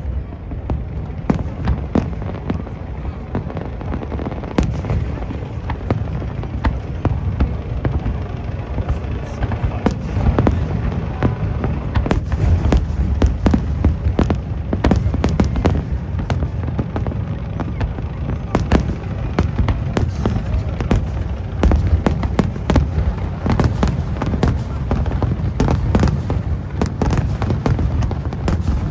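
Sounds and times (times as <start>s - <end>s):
fireworks cracks and bangs: 0.0s - 28.9s
low rumble of booms: 0.0s - 28.9s.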